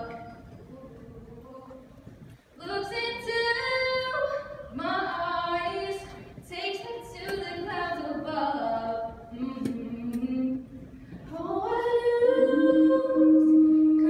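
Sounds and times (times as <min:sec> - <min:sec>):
woman singing unaccompanied: 0:00.0 - 0:02.0, 0:02.6 - 0:14.0.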